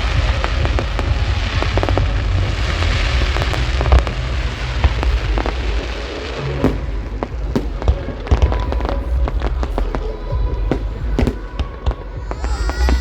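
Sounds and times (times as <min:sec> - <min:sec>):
fireworks bangs and cracks: 0:00.0 - 0:13.0
music playing: 0:00.0 - 0:13.0.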